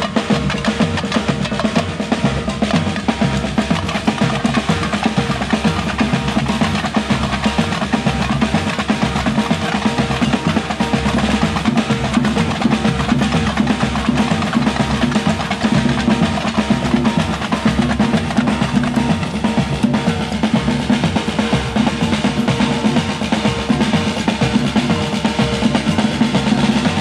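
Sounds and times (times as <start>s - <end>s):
snare drum: 0.0s - 27.0s
strap-hung drum beaten with sticks: 0.0s - 27.0s
tamborim frame drums struck: 0.0s - 27.0s.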